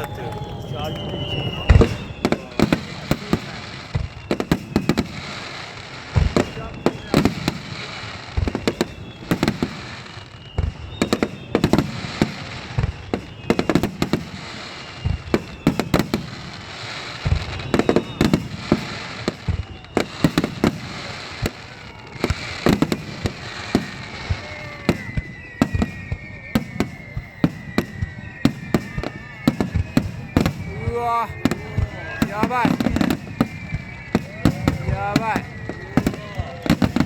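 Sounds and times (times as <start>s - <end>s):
firework bangs: 0.0s - 37.0s
firework crackle: 0.0s - 37.0s
rising firework whistles: 0.0s - 37.0s.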